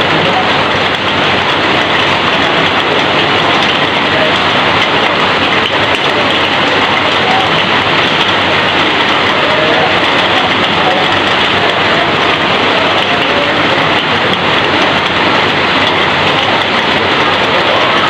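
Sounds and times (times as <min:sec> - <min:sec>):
heavy rain: 0:00.0 - 0:18.0
water streaming off roof: 0:00.0 - 0:18.0.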